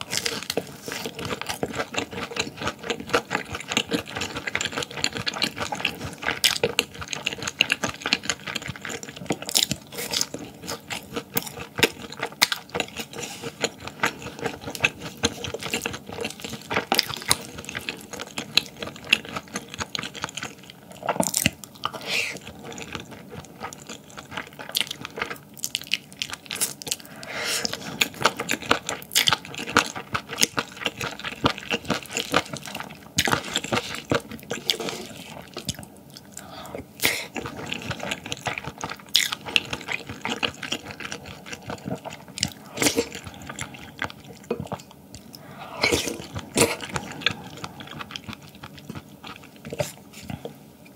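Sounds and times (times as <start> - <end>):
wet chewing and smacking: 0.0 - 50.9.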